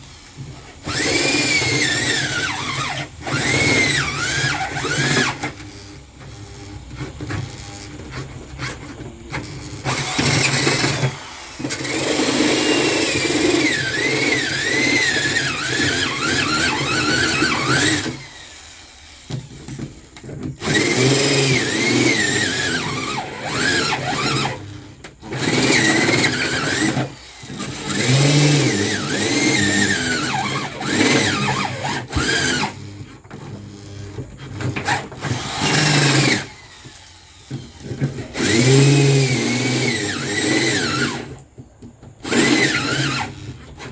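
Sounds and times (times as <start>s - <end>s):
power drill squealing: 0.2s - 41.5s, 42.2s - 43.9s.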